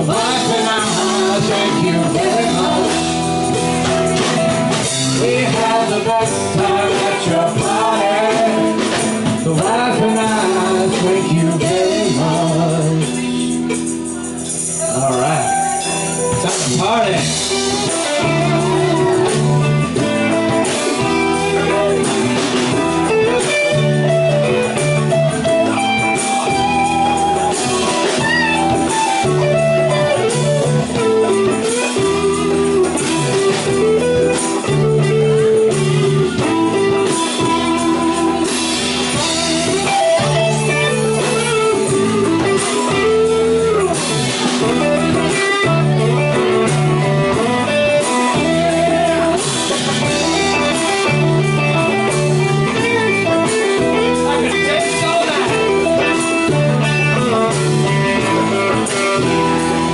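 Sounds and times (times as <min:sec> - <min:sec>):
drums with cymbals: 0:00.0 - 0:59.9
electric guitar lead: 0:00.0 - 0:59.9
repeating bass line: 0:00.0 - 0:59.9.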